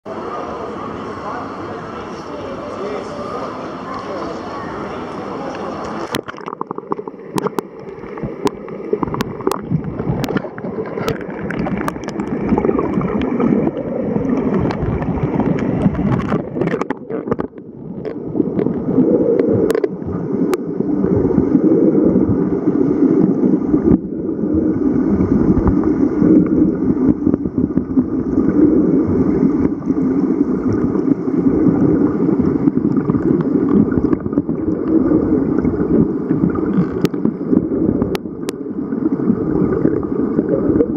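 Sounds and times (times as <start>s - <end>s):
muffled underwater rushing water: 0.0s - 40.9s.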